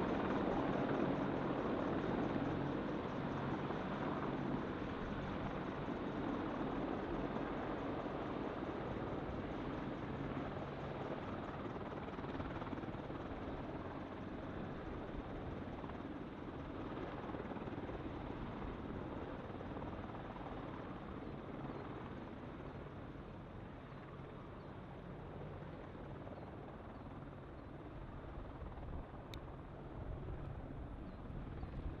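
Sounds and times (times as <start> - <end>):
helicopter rotor and turbine engines: 0.0 - 32.0.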